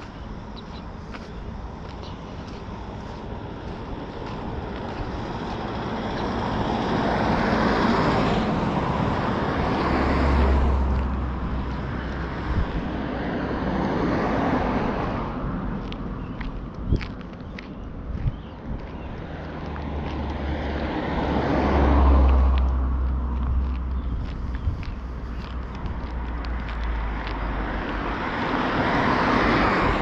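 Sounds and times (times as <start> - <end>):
low vehicle rumble: 0.0 - 30.0
vehicles passing: 0.0 - 30.0.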